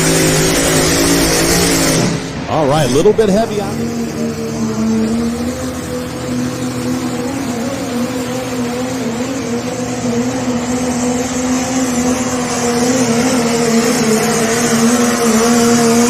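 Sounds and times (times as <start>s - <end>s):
engine at high revs under load: 0.0s - 16.0s.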